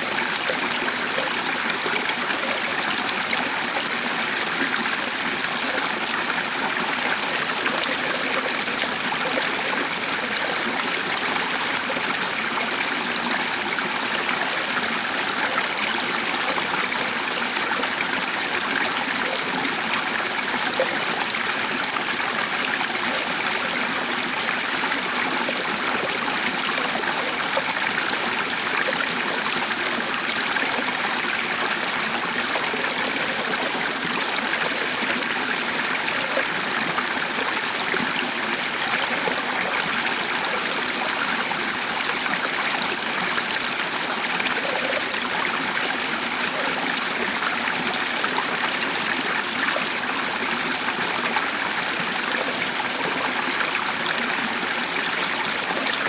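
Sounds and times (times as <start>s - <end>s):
stream of water running: 0.0s - 56.0s.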